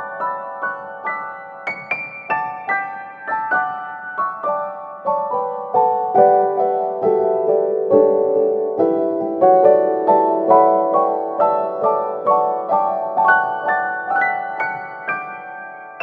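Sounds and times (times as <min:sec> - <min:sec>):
piano notes: 0:00.0 - 0:16.0.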